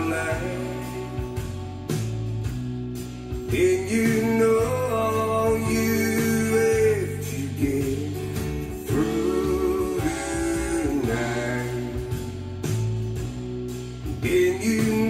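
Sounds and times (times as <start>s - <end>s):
guitar-led song over loudspeakers: 0.0s - 15.0s.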